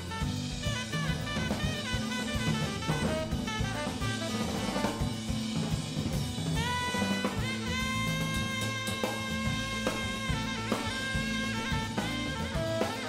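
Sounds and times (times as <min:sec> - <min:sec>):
upbeat jazz with drums and horns: 0:00.0 - 0:13.0.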